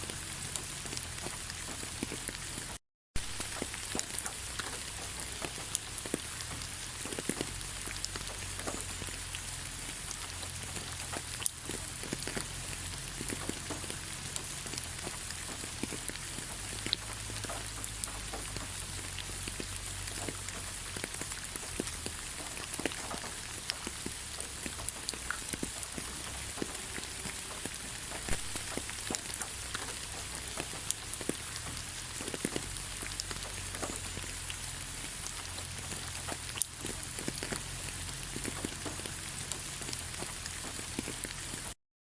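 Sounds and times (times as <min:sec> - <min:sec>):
light rain hiss: 0:00.0 - 0:41.8
raindrops ticking close by: 0:00.0 - 0:41.8.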